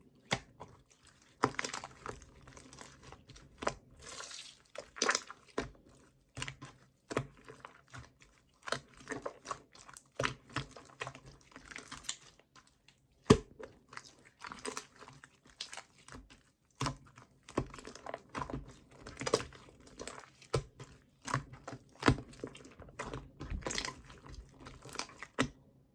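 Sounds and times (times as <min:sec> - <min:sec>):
slime squished by hand: 0:00.1 - 0:25.8.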